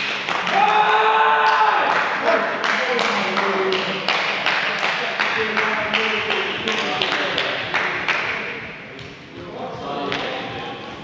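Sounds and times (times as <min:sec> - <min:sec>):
rhythmic clapping: 0:00.0 - 0:10.6.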